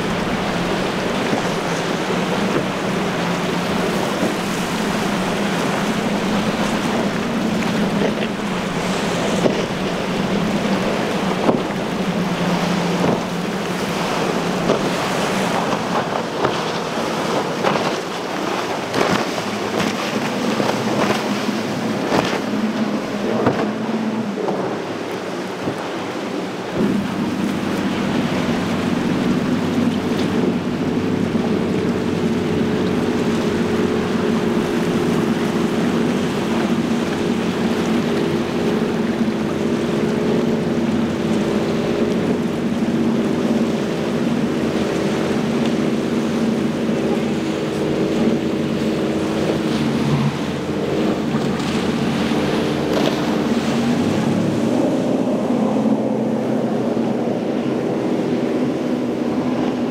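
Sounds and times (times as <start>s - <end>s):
motorboat engines running: 0.0s - 59.9s
rushing water: 0.0s - 59.9s
wind: 0.0s - 59.9s.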